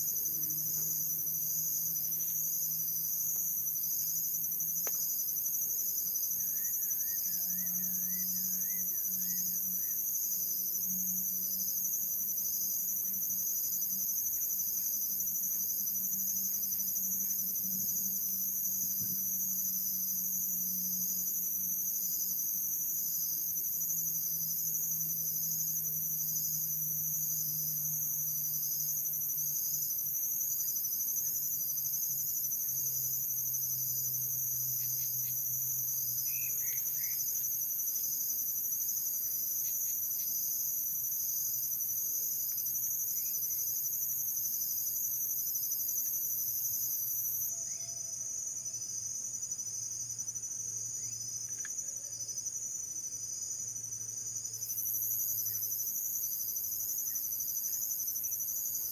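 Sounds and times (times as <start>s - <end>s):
crickets chirping: 0.0s - 58.9s.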